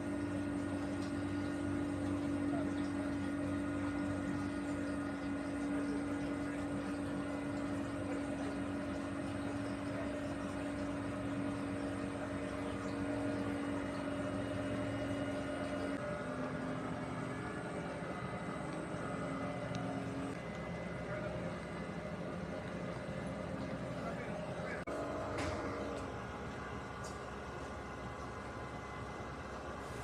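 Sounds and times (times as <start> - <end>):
tugboat engine humming: 0.0 - 30.0.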